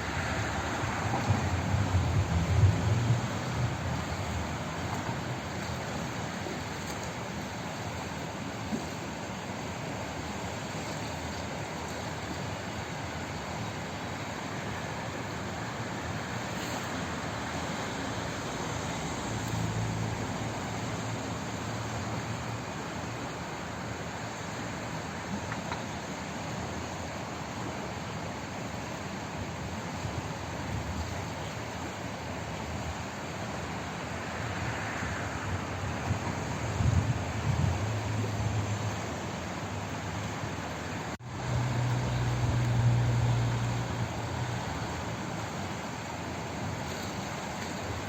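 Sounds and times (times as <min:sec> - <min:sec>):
water rushing: 0:00.0 - 0:48.0.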